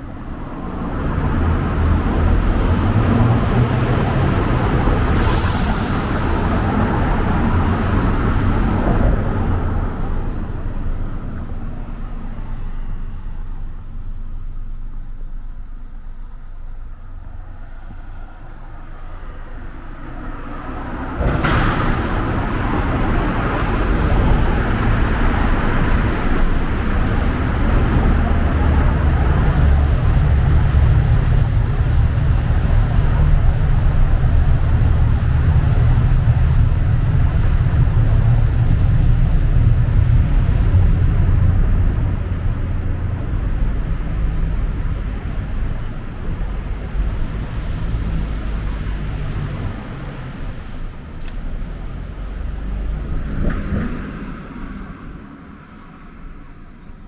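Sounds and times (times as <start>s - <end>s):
vehicle rumble: 0.0s - 57.0s.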